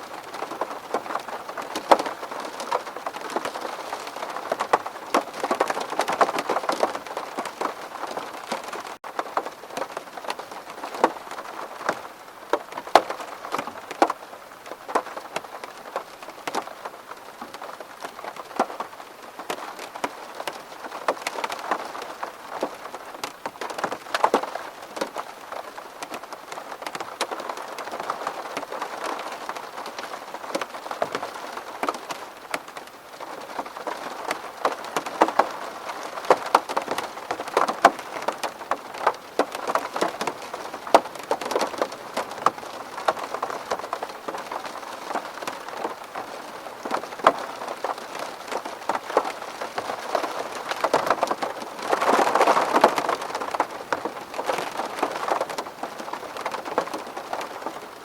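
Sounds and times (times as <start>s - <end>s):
raindrops hitting glass: 0.1s - 58.0s.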